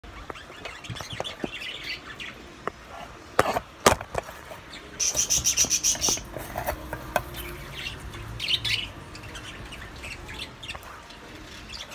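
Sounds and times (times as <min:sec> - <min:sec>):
birds chirping: 0:00.0 - 0:03.4, 0:04.4 - 0:11.9.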